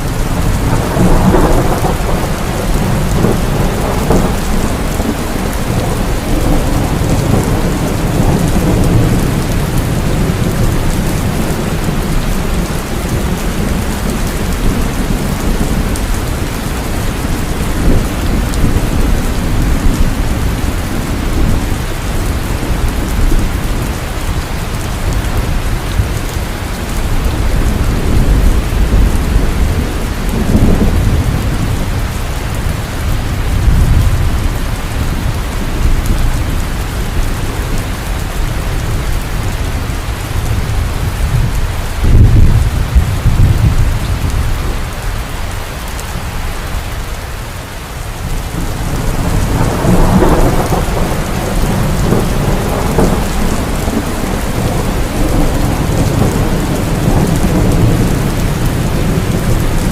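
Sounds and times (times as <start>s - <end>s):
rolling thunder: 0.0s - 45.3s, 48.2s - 59.9s
heavy rain falling: 0.0s - 59.9s.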